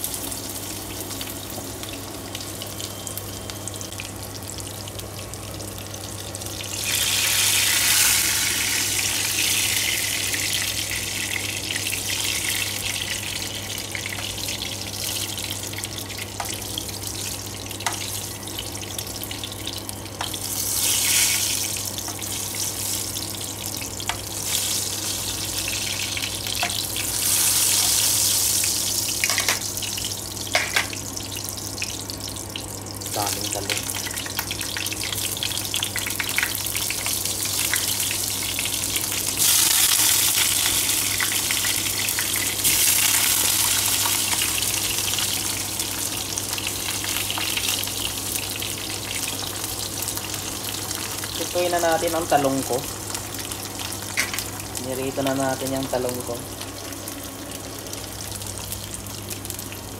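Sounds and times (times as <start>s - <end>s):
eggplant frying in hot oil: 0.0s - 59.9s.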